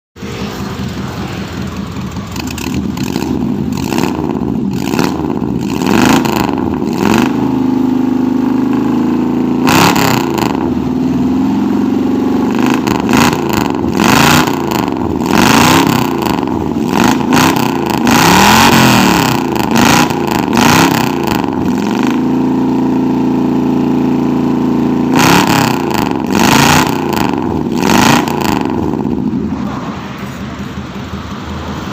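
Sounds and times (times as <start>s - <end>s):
car engine revving: 0.2s - 31.9s.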